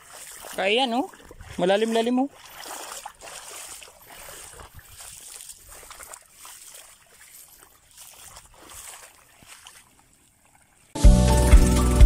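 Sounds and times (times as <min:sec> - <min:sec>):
water sloshing around a boat: 0:00.0 - 0:11.0.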